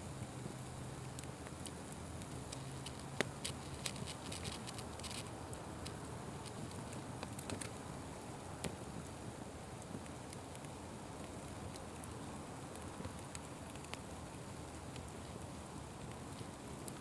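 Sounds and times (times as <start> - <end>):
open fire crackling: 0.0 - 17.0.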